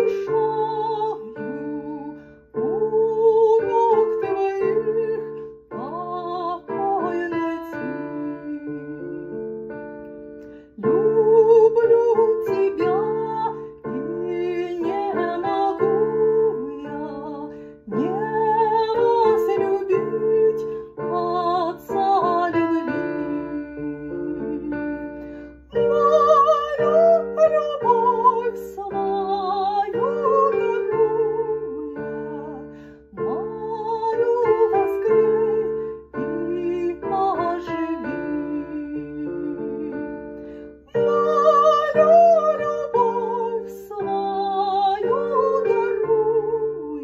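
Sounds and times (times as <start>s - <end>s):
woman singing a hymn: 0.0s - 9.8s, 10.7s - 47.0s.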